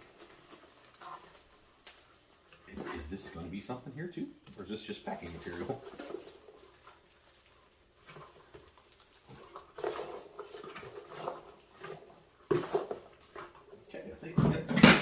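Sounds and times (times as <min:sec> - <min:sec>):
packing material crinkling: 0:00.0 - 0:13.5.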